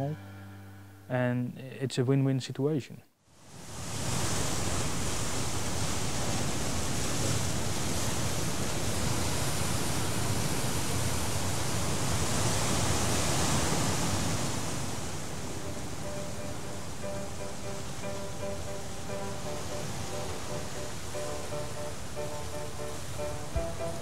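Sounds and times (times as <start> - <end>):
steady rushing noise: 4.4 - 24.0.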